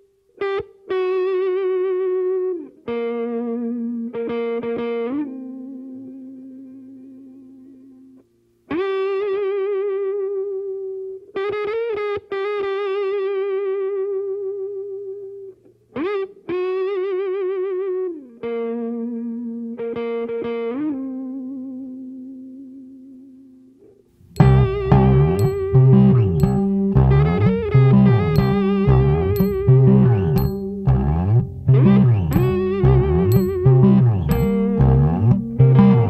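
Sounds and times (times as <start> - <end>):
electric guitar with vibrato: 0.0 - 36.0.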